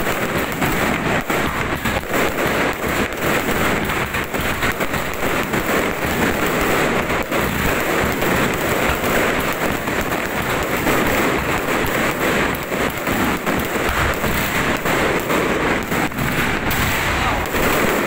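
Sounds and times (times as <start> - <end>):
fireworks crackling: 0.0 - 18.0
heavy firework bangs: 0.0 - 18.0.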